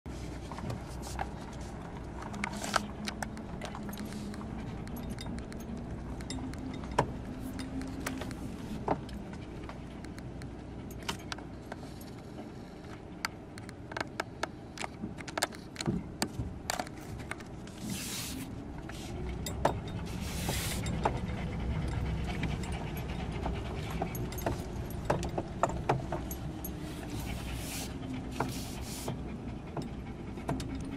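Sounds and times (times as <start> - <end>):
car engine humming: 0.2 - 30.9
loose things rattling in car: 0.2 - 30.9.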